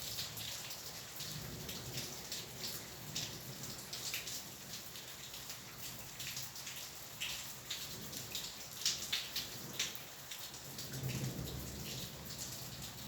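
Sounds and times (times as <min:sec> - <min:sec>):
heavy raindrops striking surface: 0:00.0 - 0:13.0
rain falling: 0:00.0 - 0:13.0.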